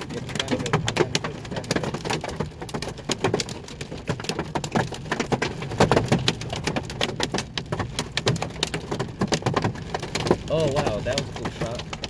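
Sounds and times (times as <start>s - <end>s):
hail clattering: 0.0s - 12.0s.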